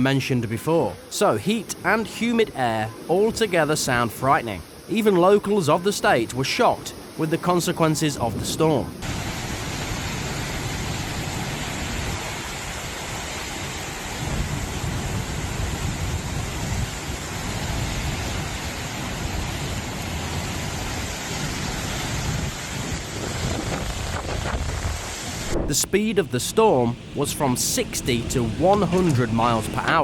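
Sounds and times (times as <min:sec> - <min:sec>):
low wind gusts: 0:00.0 - 0:30.0
wind-driven rain: 0:00.0 - 0:30.0.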